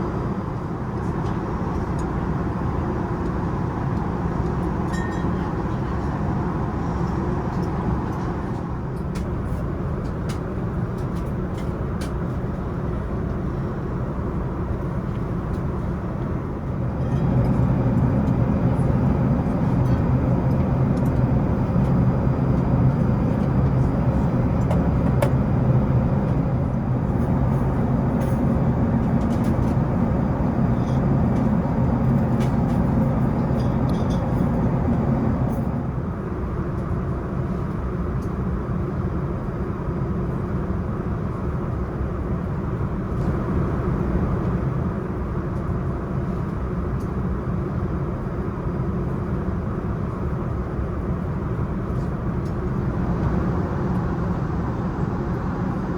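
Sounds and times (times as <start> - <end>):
airliner cabin rushing hum: 0.0 - 55.9.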